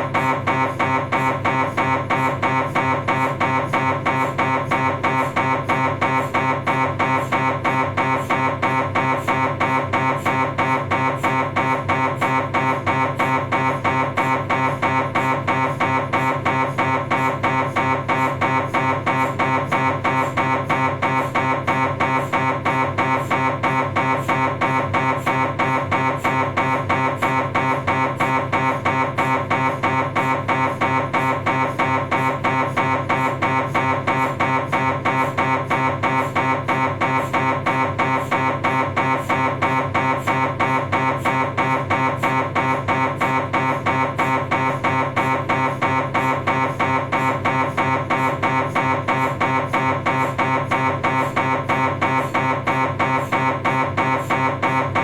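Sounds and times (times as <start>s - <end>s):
buzzing tone: 0.0s - 55.0s
mri scanner knocking: 0.0s - 55.0s.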